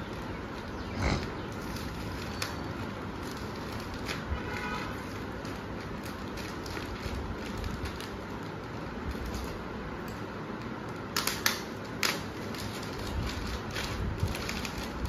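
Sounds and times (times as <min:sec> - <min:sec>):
plastic bag rustling: 0:00.0 - 0:10.2, 0:11.8 - 0:15.0
plastic crinkles and snaps: 0:00.0 - 0:15.0.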